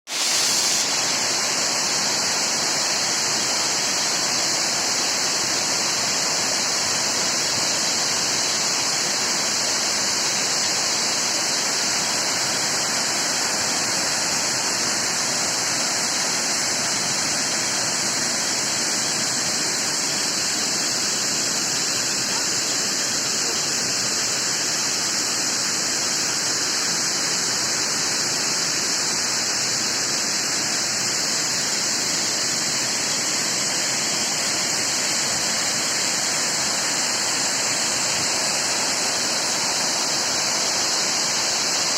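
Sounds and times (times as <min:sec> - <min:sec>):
waterfall rushing water: 0:00.1 - 0:41.9.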